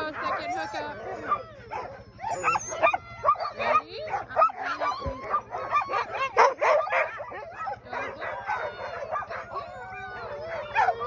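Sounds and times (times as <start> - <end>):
puppies barking yipping and howling: 0.0 - 11.0.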